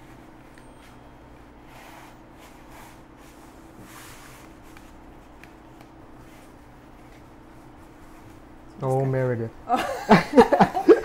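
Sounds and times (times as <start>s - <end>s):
hands pressing dough rustling: 0.0s - 9.1s
steady electrical hum: 0.0s - 11.0s.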